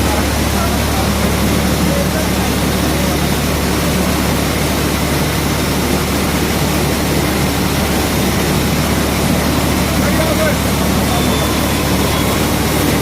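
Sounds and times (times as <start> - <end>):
deep engine hum: 0.0 - 13.0
rice mill machinery running: 0.0 - 13.0.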